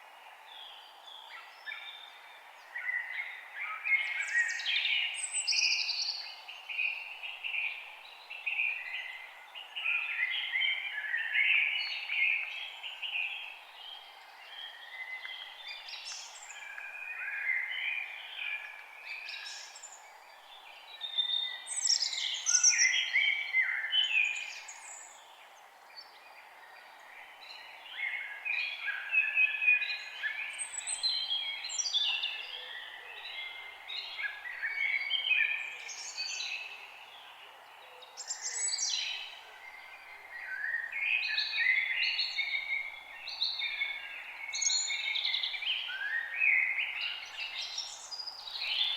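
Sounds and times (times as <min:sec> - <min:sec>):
background hiss: 0:00.0 - 0:48.9
songbirds singing: 0:00.0 - 0:48.9.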